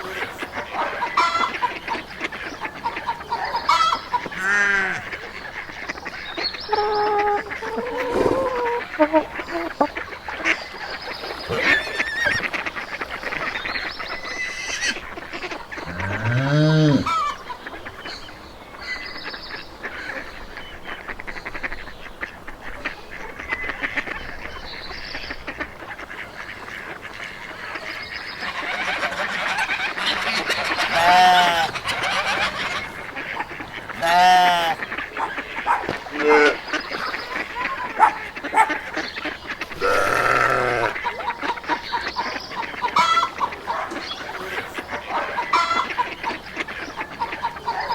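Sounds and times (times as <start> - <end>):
waterfowl calling: 0.0 - 47.9.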